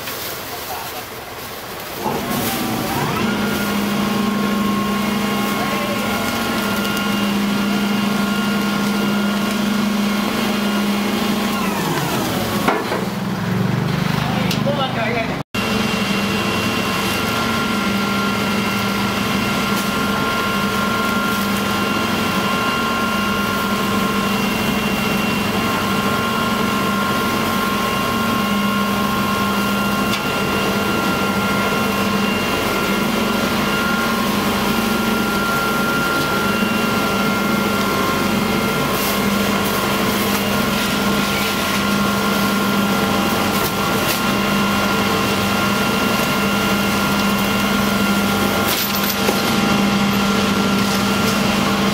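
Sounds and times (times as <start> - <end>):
garbage truck engine hum: 1.2 - 51.9.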